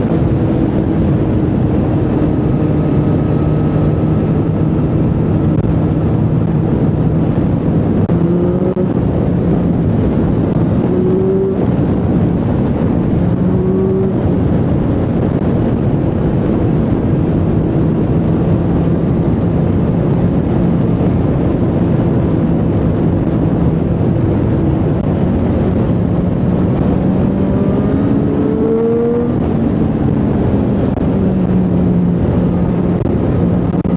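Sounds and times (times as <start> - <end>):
motorcycle engine revving: 0.0 - 33.9
steady rushing noise: 0.0 - 33.9.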